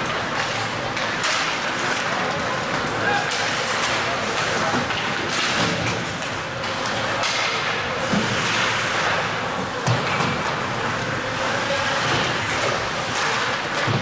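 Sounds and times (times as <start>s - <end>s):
ice rink noise: 0.0s - 14.0s.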